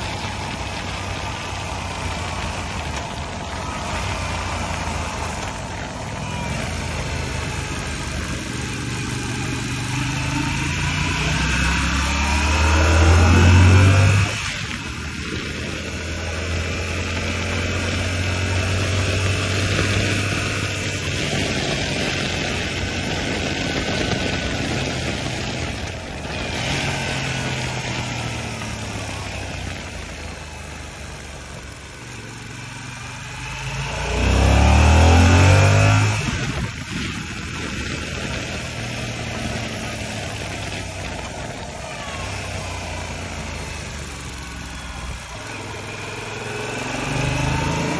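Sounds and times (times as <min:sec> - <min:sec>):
motorcycle engine revving: 0:00.0 - 0:47.9
motorcycle engine running: 0:00.0 - 0:47.9.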